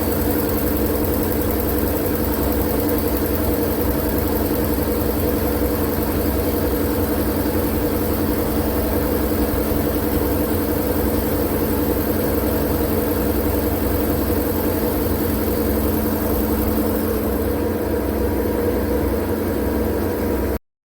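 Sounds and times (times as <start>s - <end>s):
white noise drone: 0.0s - 20.6s.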